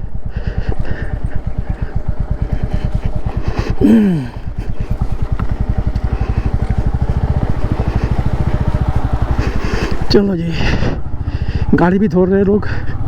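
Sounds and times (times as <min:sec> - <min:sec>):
motorcycle engine thumping: 0:00.2 - 0:11.2.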